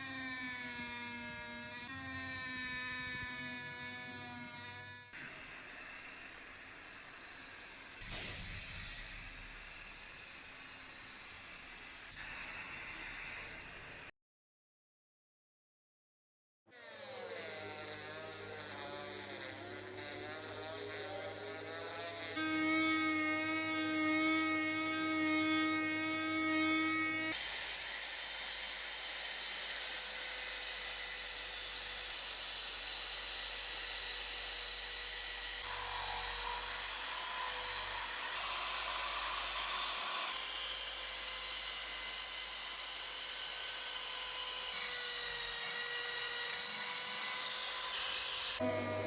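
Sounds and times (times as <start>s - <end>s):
power tool whining: 0.0s - 14.1s, 16.8s - 49.0s.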